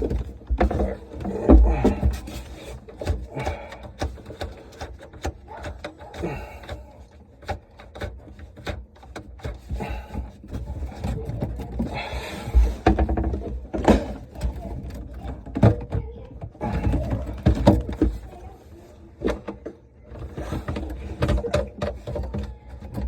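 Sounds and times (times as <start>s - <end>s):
dishwasher scraping and clicking: 0.0s - 23.0s.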